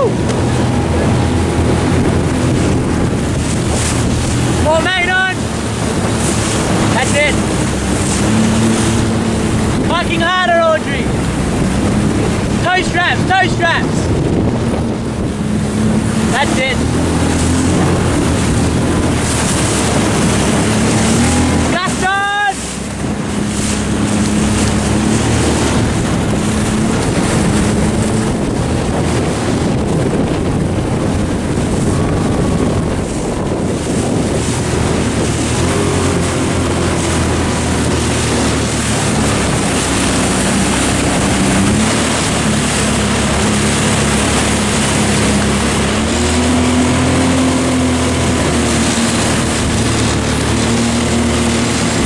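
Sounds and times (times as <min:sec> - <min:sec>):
motorboat engine running: 0:00.0 - 0:52.0
water rushing past hull: 0:00.0 - 0:52.0
wind buffeting microphone: 0:00.0 - 0:52.0.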